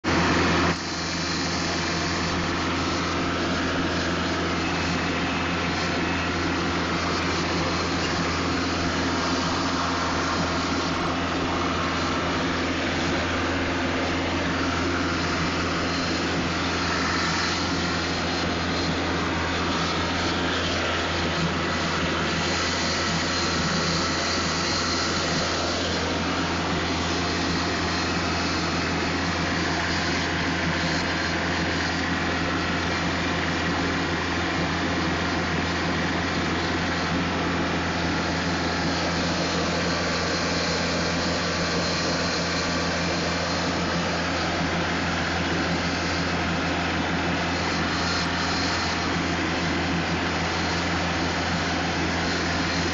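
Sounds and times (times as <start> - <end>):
tractor diesel engine cutting grass: 0.0 - 52.9.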